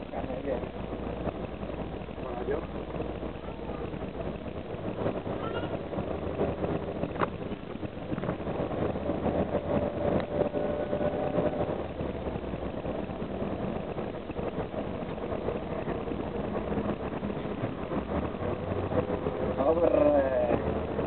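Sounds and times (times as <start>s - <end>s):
bus diesel engine droning: 0.0s - 21.0s
faint steady whine: 0.0s - 21.0s
tyre and road noise: 0.0s - 21.0s.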